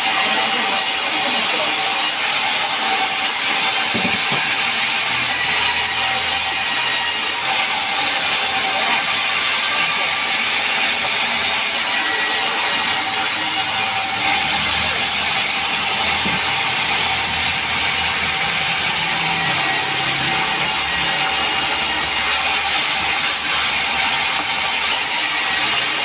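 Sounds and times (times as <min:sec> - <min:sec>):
sawmill saw rasping through wood: 0:00.0 - 0:26.0.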